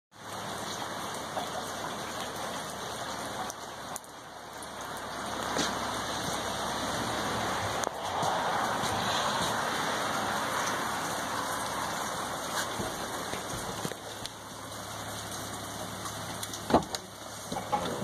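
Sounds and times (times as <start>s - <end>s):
steady rain falling: 0.1s - 18.0s.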